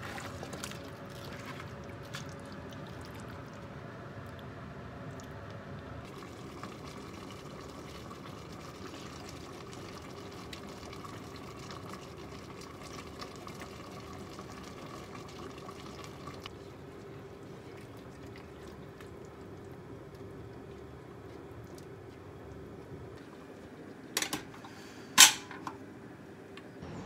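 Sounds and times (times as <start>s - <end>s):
kitchen hum: 0.0s - 27.0s.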